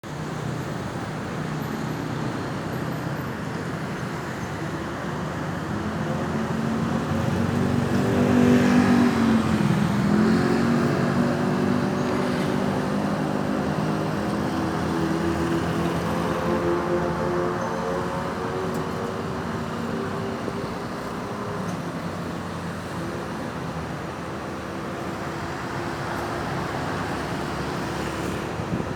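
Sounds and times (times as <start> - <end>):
road traffic noise: 0.0 - 28.9.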